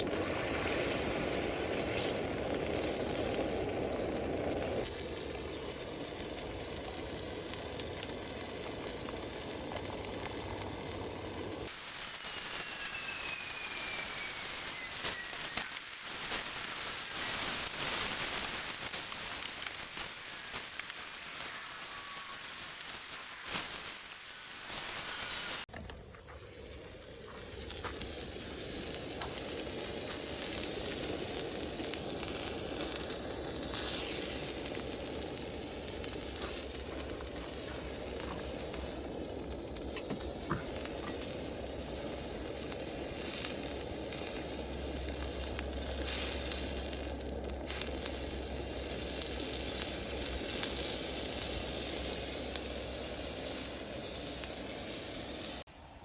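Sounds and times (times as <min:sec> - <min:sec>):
sharp crackles: 0:00.0 - 0:55.6
food sizzling over campfire: 0:00.0 - 0:55.7.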